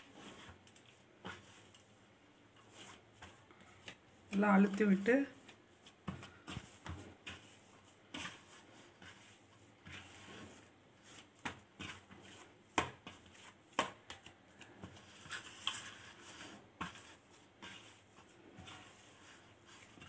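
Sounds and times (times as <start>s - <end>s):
hands kneading dough: 0.0s - 20.0s.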